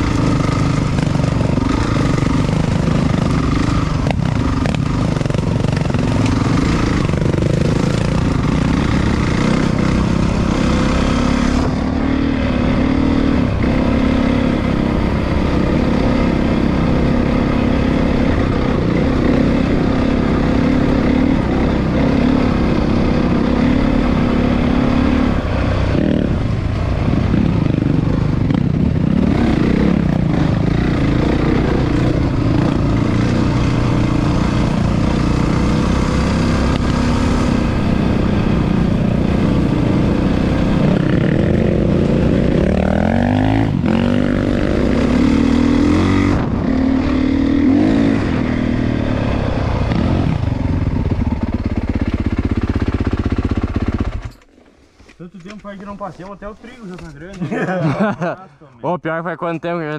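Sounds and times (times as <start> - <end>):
dirt bike engine revving: 0.0 - 54.4.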